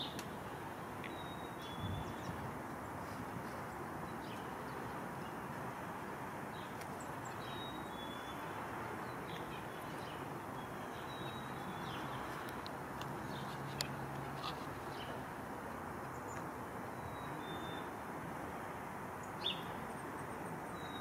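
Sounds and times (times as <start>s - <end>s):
low outdoor background noise: 0.0s - 21.0s.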